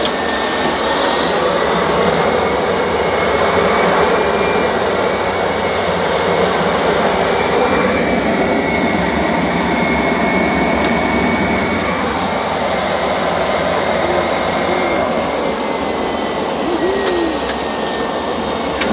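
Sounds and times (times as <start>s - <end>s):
aircraft engine and propeller: 0.0s - 18.9s
faint high whine: 0.0s - 18.9s.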